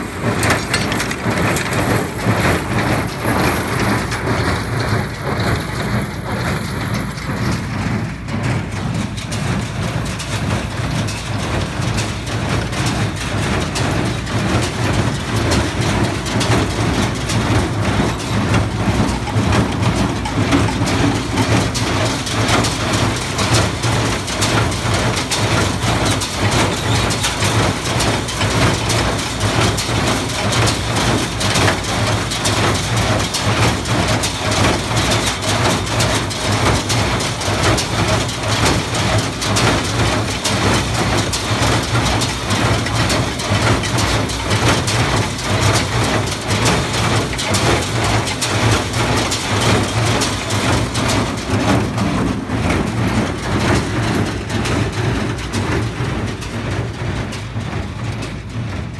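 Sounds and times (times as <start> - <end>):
baler clatter: 0.0 - 58.9
tractor engine low hum: 0.0 - 58.9.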